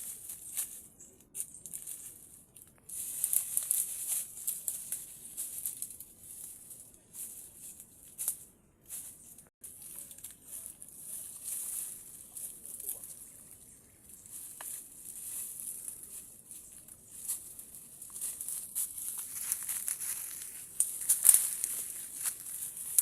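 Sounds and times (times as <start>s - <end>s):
faint crackles: 0.0s - 23.0s.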